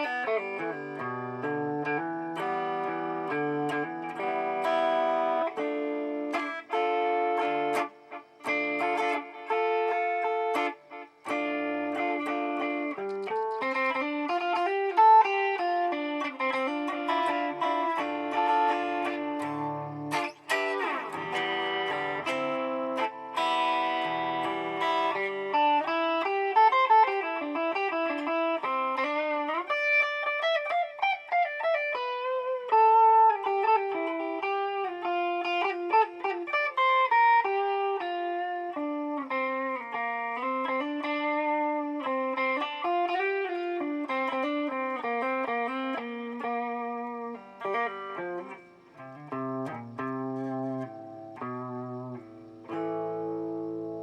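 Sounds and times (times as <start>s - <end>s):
electric guitar with echoing delay: 0.0s - 54.0s.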